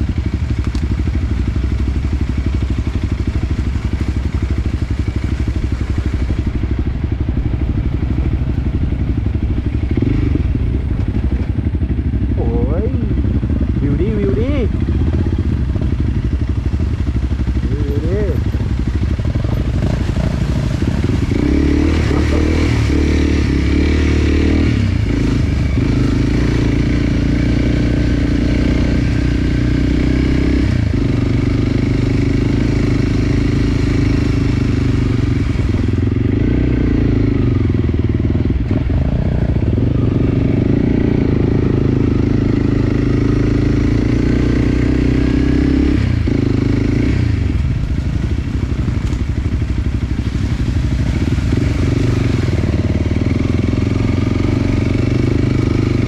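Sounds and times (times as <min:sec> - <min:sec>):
dirt bike engine revving: 0:02.0 - 0:47.6, 0:50.6 - 0:56.0.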